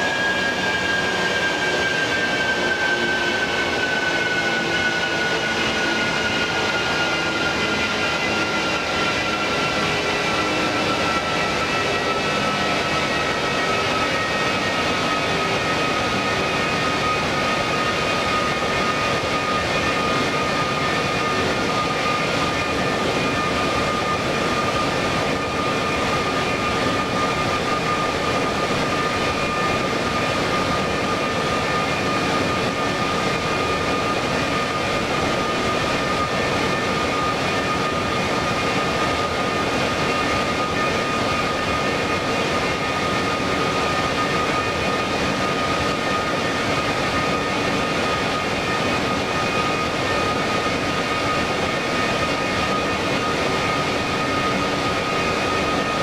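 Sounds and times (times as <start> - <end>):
high steady whine: 0.0 - 56.0
jet engines rushing: 0.0 - 56.0.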